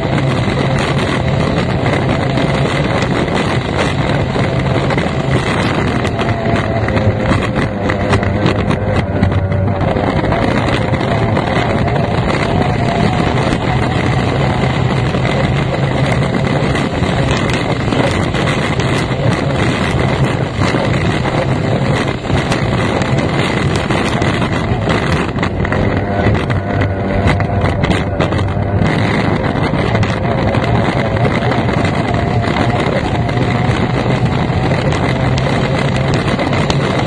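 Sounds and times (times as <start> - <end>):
racing outboard engine: 0.0 - 37.0
wind buffeting microphone: 0.0 - 37.0.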